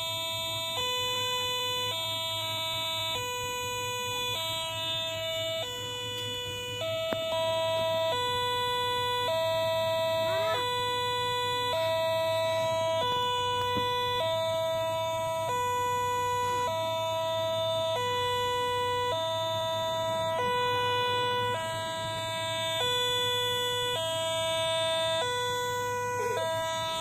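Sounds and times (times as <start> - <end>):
two-tone electronic warning alarm: 0.0 - 27.0.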